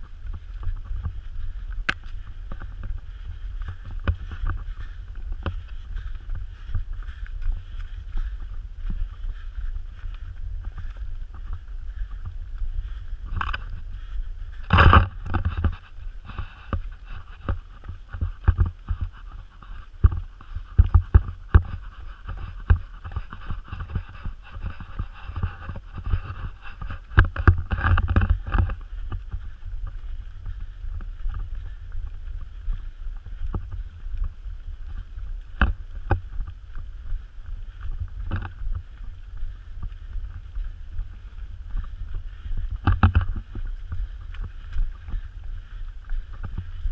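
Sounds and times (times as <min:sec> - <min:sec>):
wind on microphone: 0:00.0 - 0:46.9.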